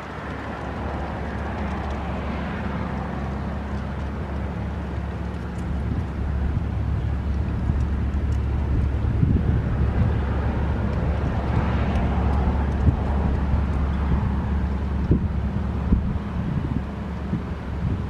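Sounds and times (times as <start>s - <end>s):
vehicle passing: 0.0s - 17.0s
low engine hum: 0.0s - 18.0s
wind on microphone: 0.0s - 18.0s.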